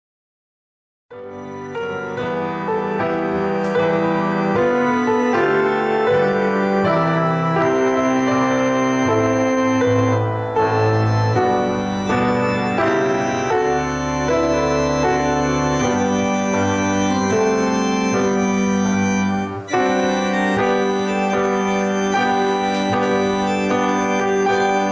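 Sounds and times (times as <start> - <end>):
organ chords: 1.1 - 24.9.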